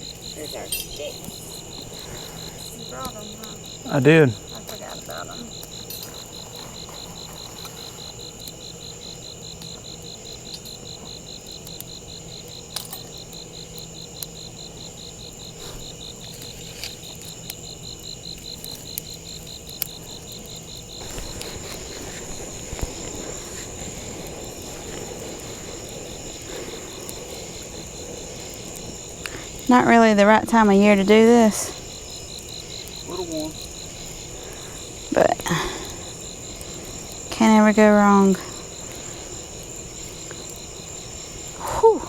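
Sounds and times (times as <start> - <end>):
insects chirping: 0.0 - 42.0.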